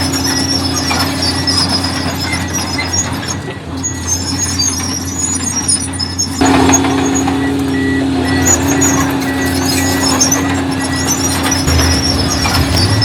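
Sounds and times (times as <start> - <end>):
bulldozer diesel engine running: 0.0 - 13.0
tracks squeaking and squealing: 0.0 - 13.0.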